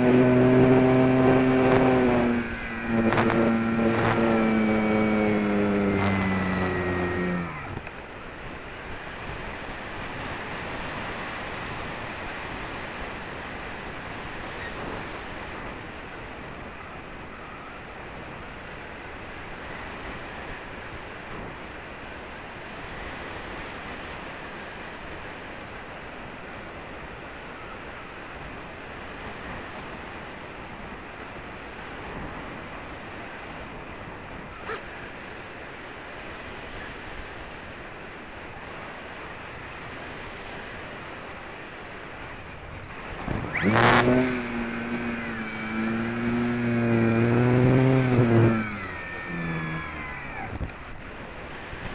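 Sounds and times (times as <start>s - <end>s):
electric motor and propeller whining: 0.0s - 25.5s, 32.4s - 37.4s, 38.2s - 51.9s.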